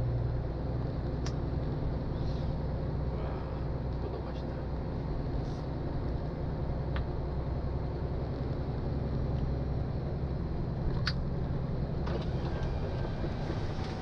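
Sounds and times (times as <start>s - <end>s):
truck engine and road drone: 0.0s - 14.0s.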